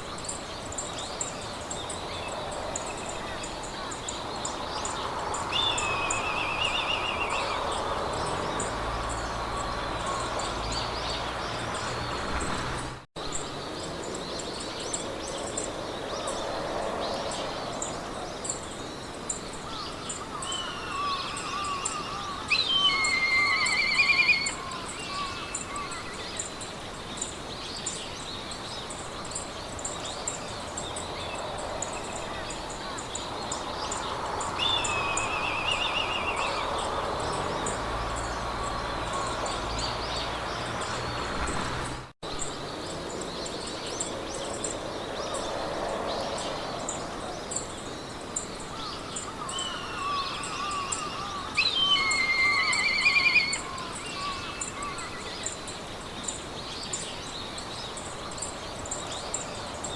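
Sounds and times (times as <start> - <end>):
songbirds trilling and chirping: 0.0 - 59.9
wind hiss: 0.0 - 59.9.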